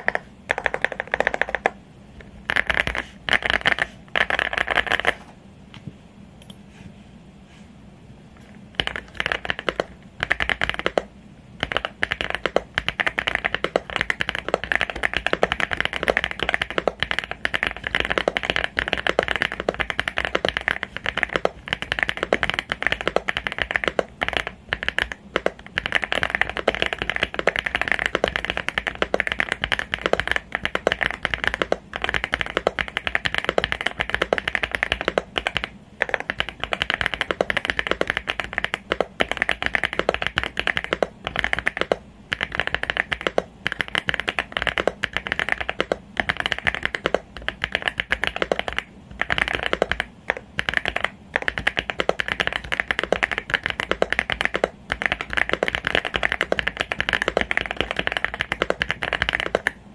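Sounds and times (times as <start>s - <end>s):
typing on mechanical keyboard: 0.0s - 1.8s, 2.5s - 5.2s, 8.8s - 59.8s.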